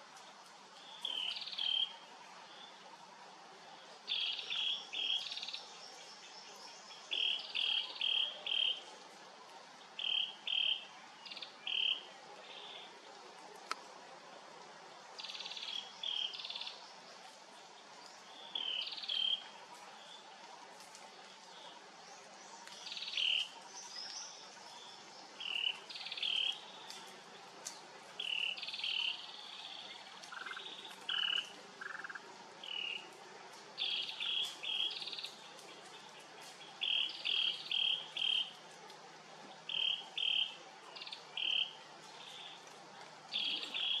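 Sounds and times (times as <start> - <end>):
wild birds chirping: 0.8 - 2.8, 3.8 - 9.0, 9.6 - 13.0, 15.1 - 20.4, 21.1 - 44.0.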